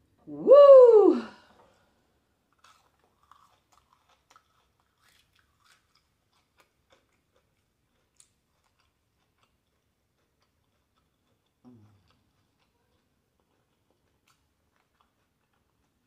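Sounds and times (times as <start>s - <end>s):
chewing with soft crunches: 1.6s - 16.0s.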